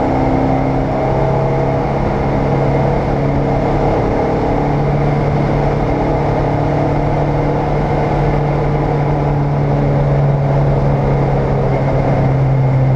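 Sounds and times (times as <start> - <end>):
race car engine running: 0.0 - 12.9
wind and road noise: 0.0 - 12.9.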